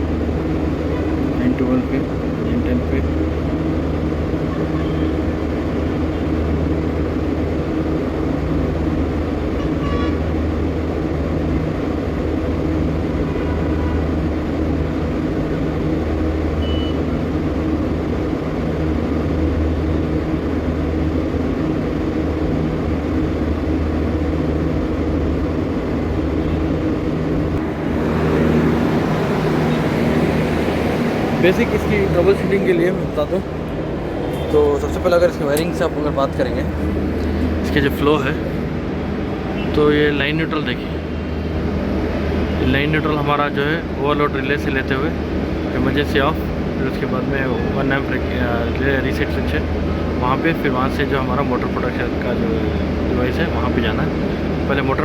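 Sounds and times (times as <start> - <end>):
machinery hum: 0.0 - 54.7.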